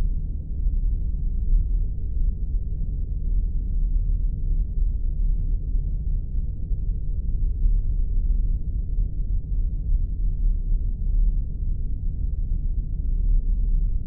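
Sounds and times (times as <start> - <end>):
deep rumble and hum: 0.0 - 14.0.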